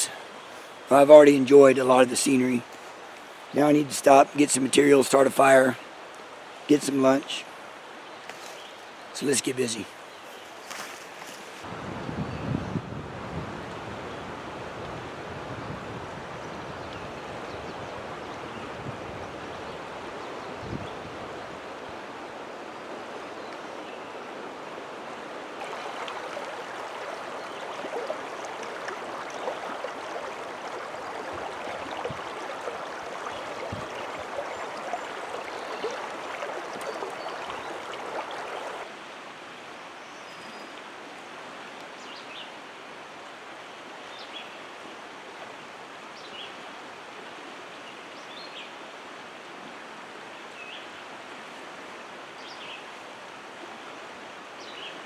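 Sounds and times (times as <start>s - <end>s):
creek water running over rocks: 0.0s - 11.7s, 21.1s - 55.0s.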